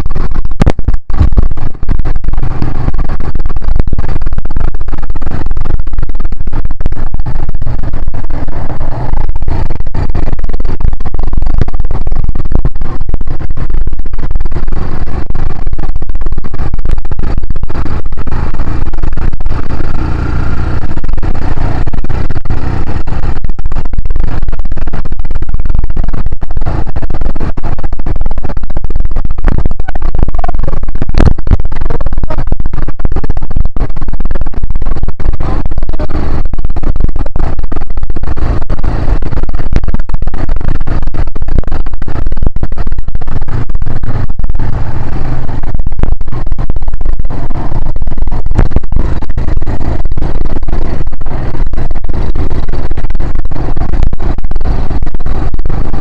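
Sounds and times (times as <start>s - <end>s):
distorted quad bike engine rumble: 0.0s - 56.0s.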